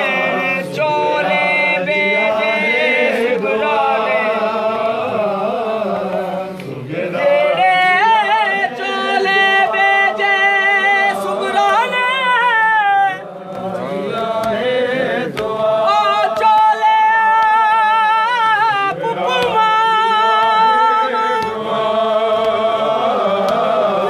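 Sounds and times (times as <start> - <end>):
voices chanting a lament: 0.0 - 24.0.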